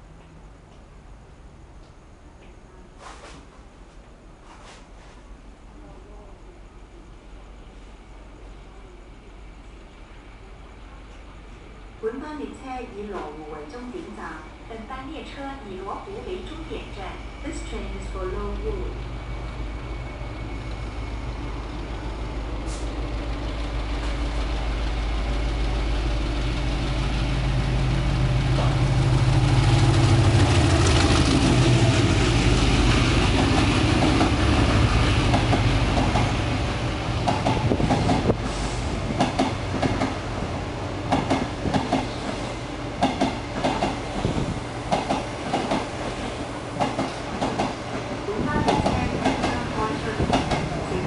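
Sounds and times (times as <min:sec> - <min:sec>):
locomotive drone: 0:00.0 - 0:51.0.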